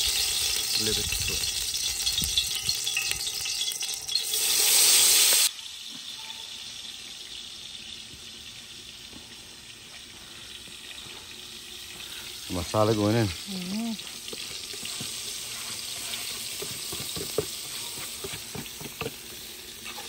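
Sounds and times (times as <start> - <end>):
loud hiss in hot pot: 0.0 - 6.0, 9.4 - 20.0
quiet steady sizzle: 0.0 - 20.0.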